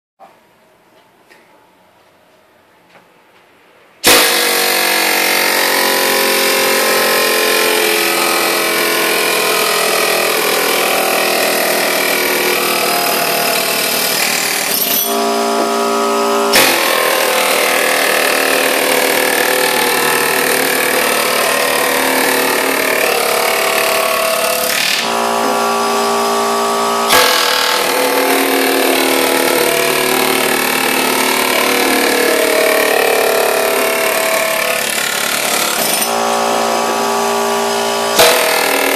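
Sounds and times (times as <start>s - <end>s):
pneumatic air scraper on steel: 4.0s - 10.8s, 11.8s - 38.9s.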